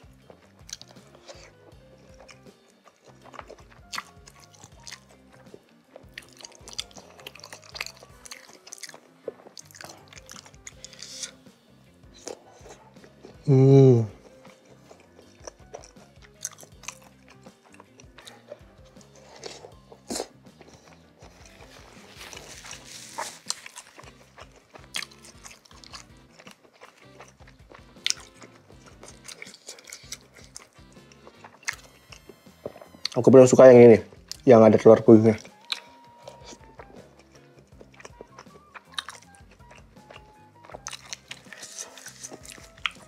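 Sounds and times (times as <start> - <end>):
soft background music: 0.0 - 43.0
wet chewing sounds: 0.0 - 43.0.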